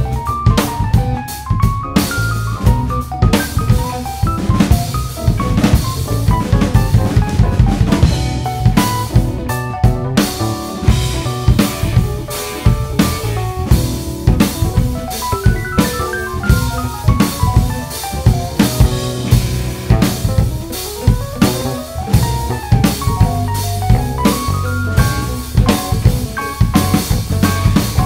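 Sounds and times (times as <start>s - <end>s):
bass line: 0.0s - 28.0s
drum kit playing: 0.0s - 28.0s
jazz-rock fusion music: 0.0s - 28.0s.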